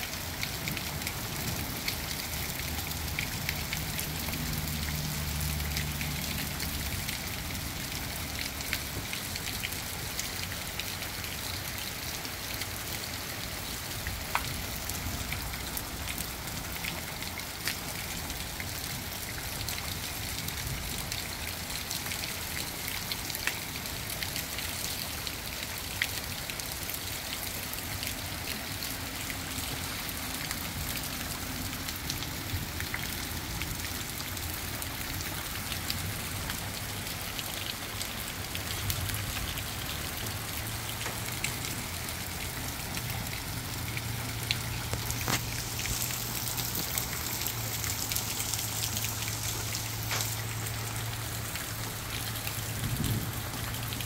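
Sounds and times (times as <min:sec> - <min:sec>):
steady rain on concrete: 0:00.0 - 0:54.0.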